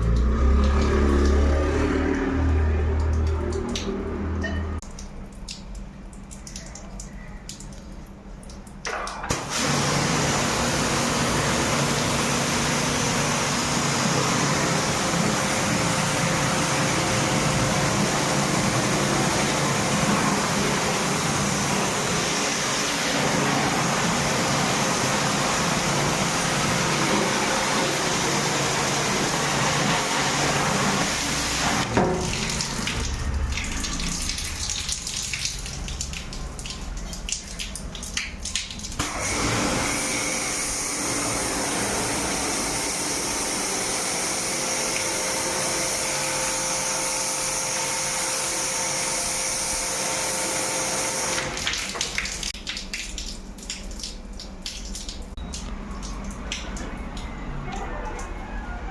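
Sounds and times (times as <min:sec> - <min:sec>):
water splashes: 0:00.0 - 0:40.9, 0:48.9 - 0:58.9
water spraying: 0:00.0 - 0:58.9.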